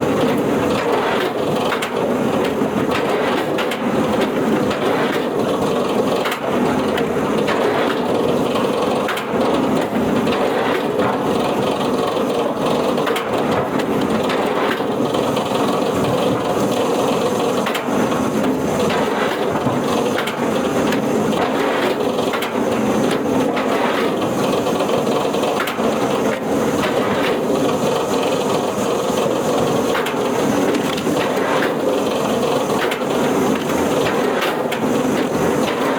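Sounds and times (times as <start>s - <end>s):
wood-processing machine drone: 0.0s - 35.9s.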